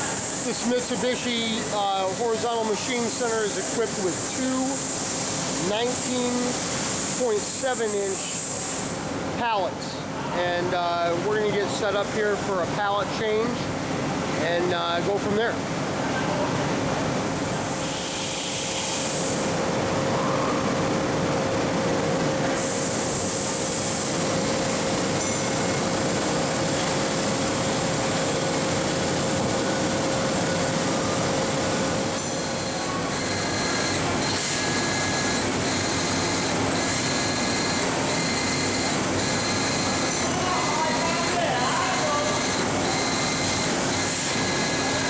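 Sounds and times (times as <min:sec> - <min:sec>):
constant machine hum: 0:00.0 - 0:45.0
machine mechanical running noise: 0:00.0 - 0:45.0.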